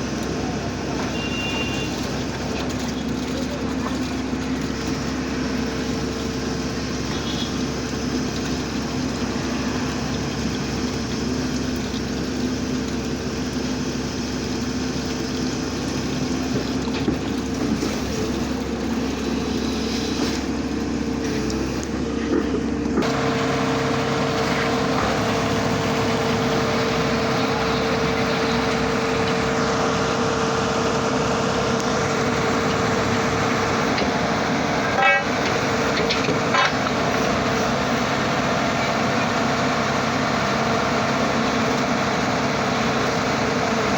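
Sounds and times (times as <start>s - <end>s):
drilling machine engine humming: 0.0s - 43.9s.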